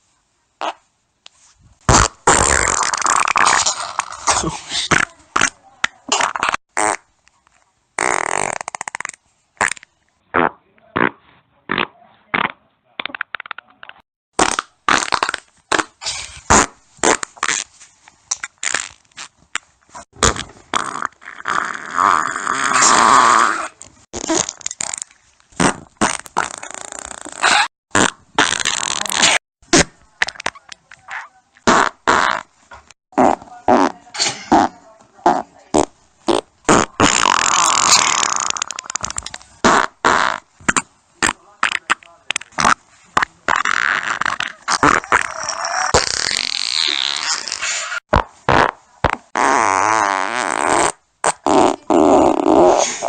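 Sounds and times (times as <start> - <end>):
human farts: 0.6 - 0.8, 1.9 - 7.1, 8.0 - 13.6, 14.4 - 17.7, 20.0 - 32.5, 33.1 - 53.0.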